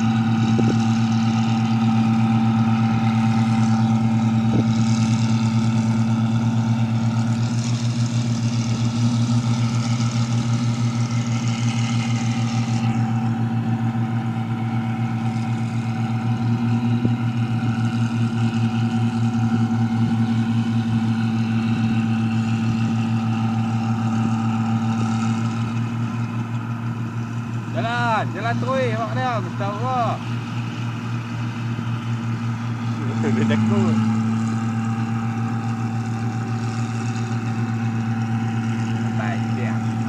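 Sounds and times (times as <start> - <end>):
machine engine droning steadily: 0.0 - 40.0.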